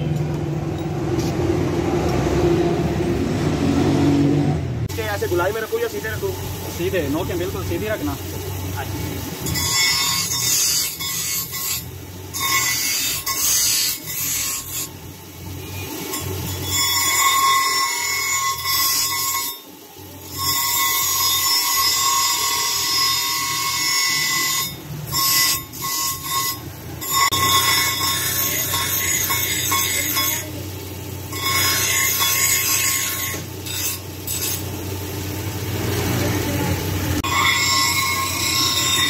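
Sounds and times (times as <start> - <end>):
bench grinder grinding steel: 4.9 - 39.0.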